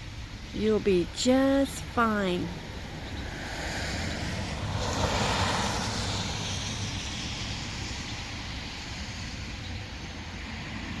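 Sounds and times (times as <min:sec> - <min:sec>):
vehicle passing: 0:01.8 - 0:11.0.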